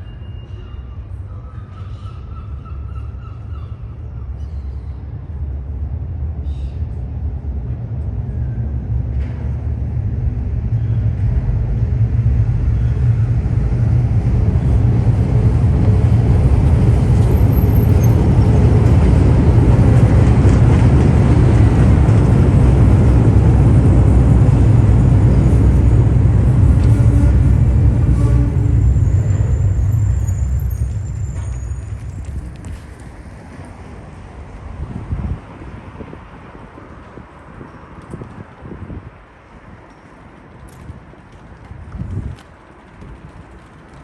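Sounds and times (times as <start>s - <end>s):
vehicle low rumble: 0.6s - 44.0s.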